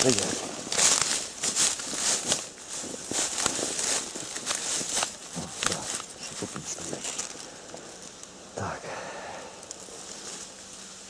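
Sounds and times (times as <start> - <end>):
footsteps through dry reeds: 0.0 - 8.4, 9.5 - 11.0.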